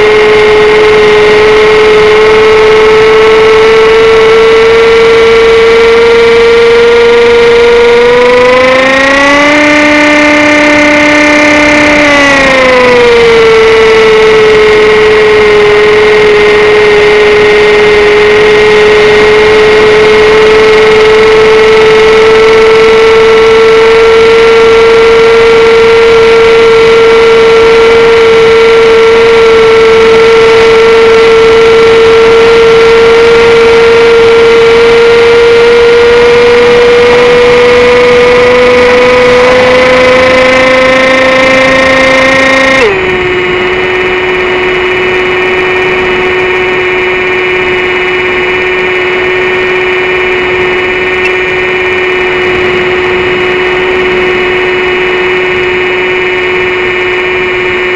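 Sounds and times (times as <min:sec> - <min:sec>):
model plane motor whining: 0:00.0 - 0:57.9.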